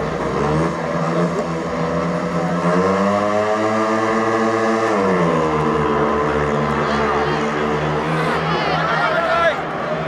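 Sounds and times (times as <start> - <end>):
motorcycle engines racing: 0.0 - 10.0.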